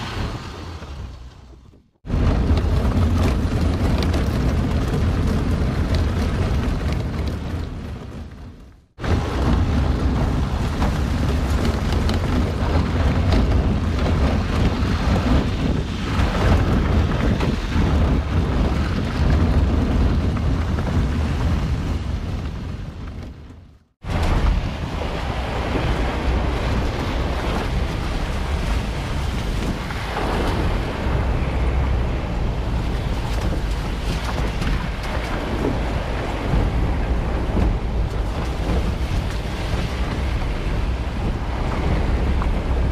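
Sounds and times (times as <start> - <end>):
tyres rumbling on gravel: 0.0 - 42.9
wind on microphone: 0.0 - 42.9.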